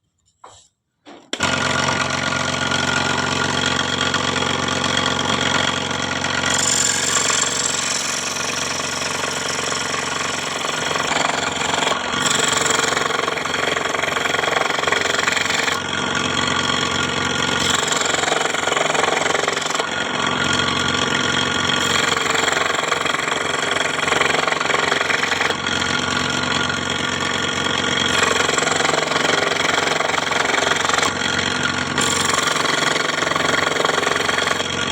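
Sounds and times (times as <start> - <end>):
scroll saw humming: 1.3 - 34.9.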